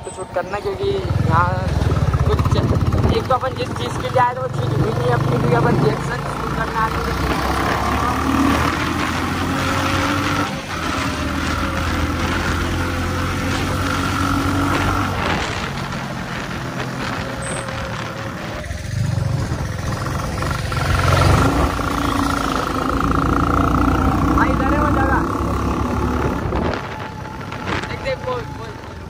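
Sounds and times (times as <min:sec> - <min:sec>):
road noise: 0:00.0 - 0:29.0
motorcycle engine running: 0:00.9 - 0:29.0.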